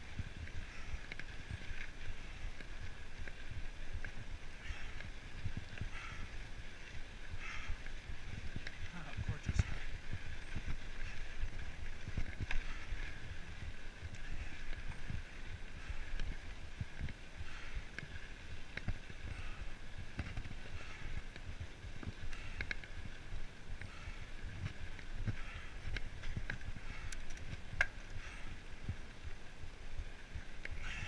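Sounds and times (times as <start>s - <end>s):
rolling and wind hiss: 0.0s - 31.0s.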